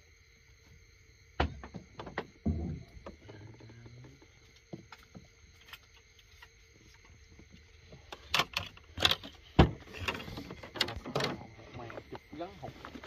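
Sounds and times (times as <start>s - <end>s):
sharp knocks and rustles: 1.3s - 13.0s.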